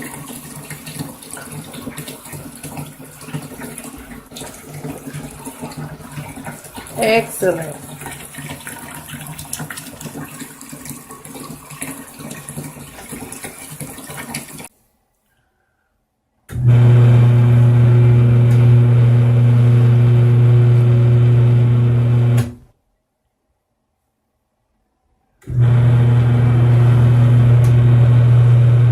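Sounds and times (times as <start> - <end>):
washing machine motor humming: 0.0 - 14.6, 16.5 - 22.7, 25.4 - 28.9
water splashing in washing machine: 0.0 - 14.7, 16.5 - 22.6, 25.4 - 28.9.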